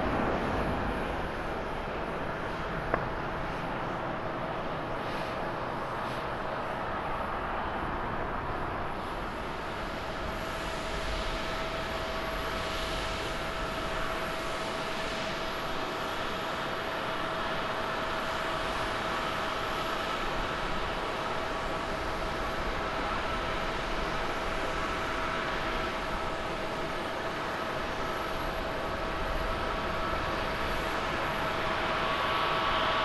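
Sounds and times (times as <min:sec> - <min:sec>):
jet airliner taking off: 0:00.0 - 0:33.0.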